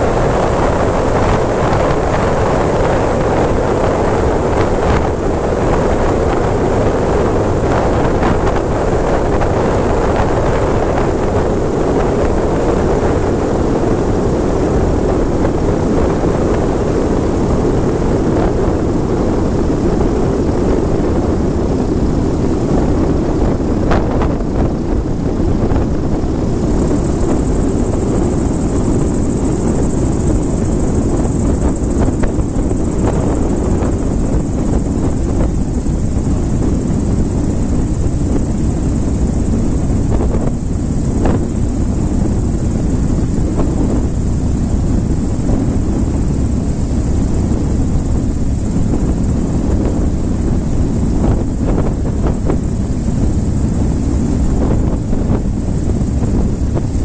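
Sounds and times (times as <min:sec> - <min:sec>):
propeller airplane engine running: 0:00.0 - 0:57.0.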